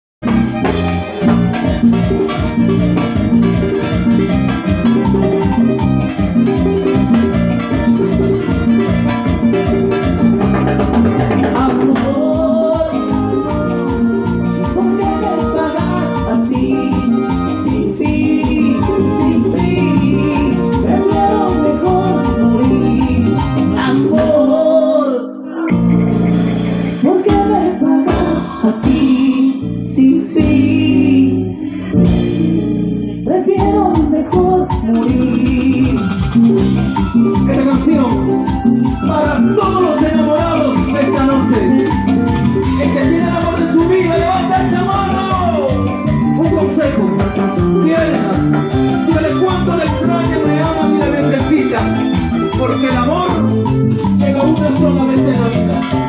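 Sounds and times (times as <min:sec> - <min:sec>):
live latin dance band: 0:00.2 - 0:56.0.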